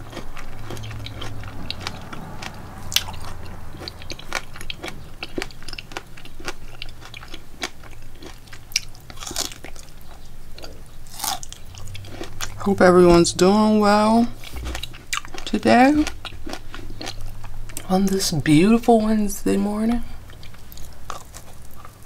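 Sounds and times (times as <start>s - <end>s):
person chewing food: 0.0s - 18.0s, 20.2s - 22.0s
low steady hum: 0.0s - 22.0s.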